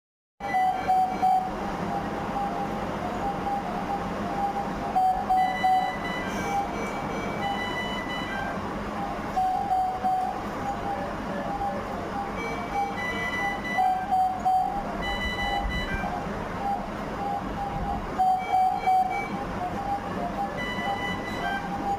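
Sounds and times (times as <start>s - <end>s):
electronic beeping: 0.4s - 21.9s
high alarm tones: 0.4s - 21.9s.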